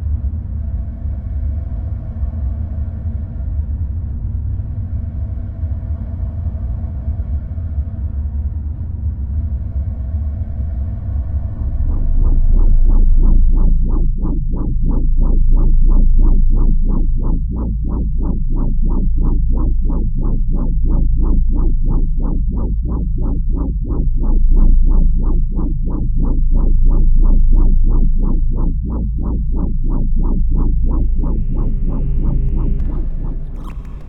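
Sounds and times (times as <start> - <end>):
deep pulsing synthesized drone: 0.0 - 34.0.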